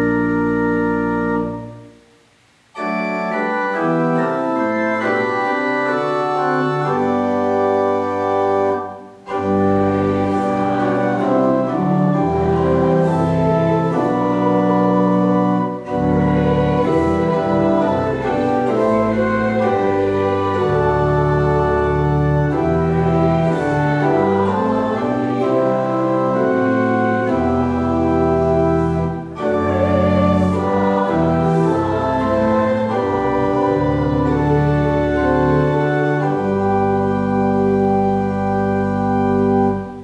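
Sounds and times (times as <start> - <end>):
church organ chords: 0.0 - 2.0, 2.7 - 40.0.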